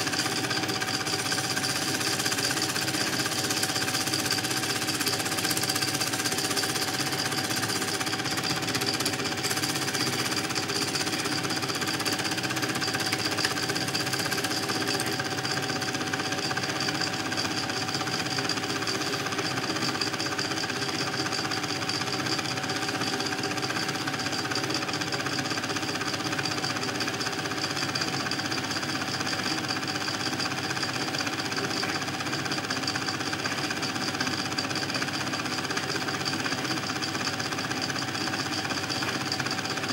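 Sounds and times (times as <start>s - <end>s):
film projector clatter: 0.0s - 39.9s.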